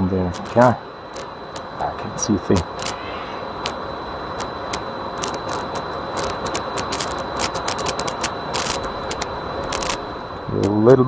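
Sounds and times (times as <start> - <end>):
steady rushing noise: 0.0 - 11.0
thin high whine: 0.0 - 11.0
crackling clicks: 0.2 - 1.8, 2.5 - 10.8.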